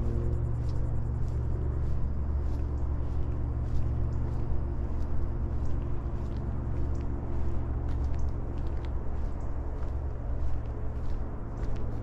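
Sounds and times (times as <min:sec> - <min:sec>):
engine hum: 0:00.0 - 0:12.0
traffic rumble: 0:00.0 - 0:12.0.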